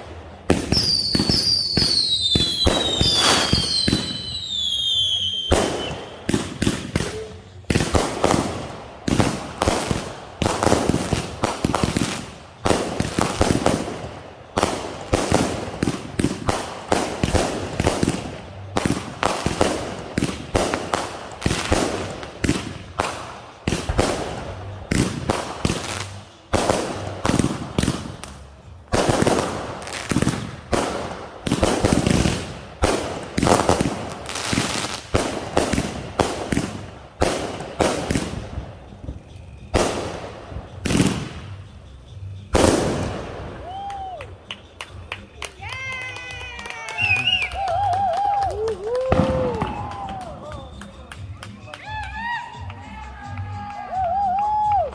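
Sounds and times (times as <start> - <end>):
fireworks bangs and crackling: 0.0 - 52.7.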